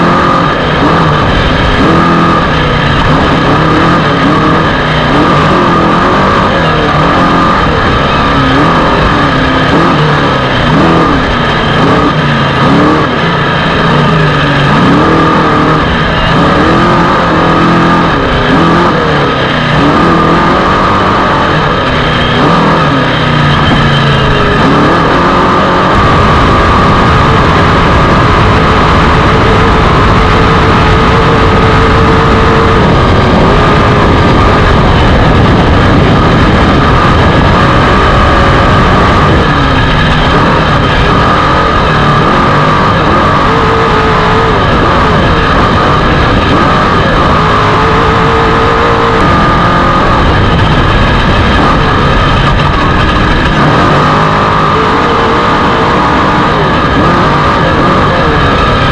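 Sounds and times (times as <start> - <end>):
loud driving noise: 0.0 - 58.9
race vehicle engine revving: 0.0 - 58.9.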